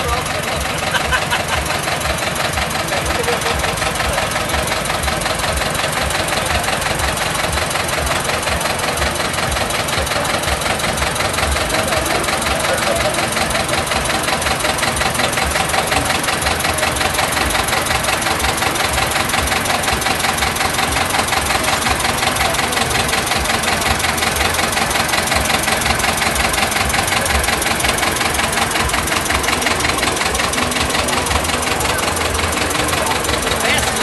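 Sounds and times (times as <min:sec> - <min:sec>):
tractor engine knocking at low revs: 0:00.0 - 0:34.0.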